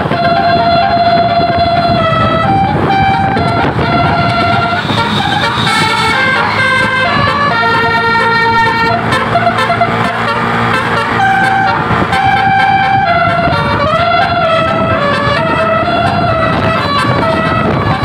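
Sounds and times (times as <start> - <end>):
bus engine rumble: 0.0 - 18.0
bus horn playing a melody: 0.0 - 18.0.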